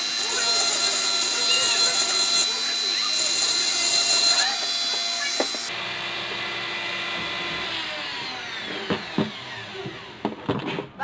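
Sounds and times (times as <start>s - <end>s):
rotary tool whining: 0.0s - 10.6s.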